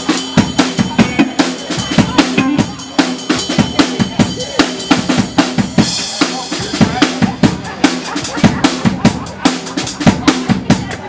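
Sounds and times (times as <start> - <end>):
drum kit playing fast: 0.0 - 11.0.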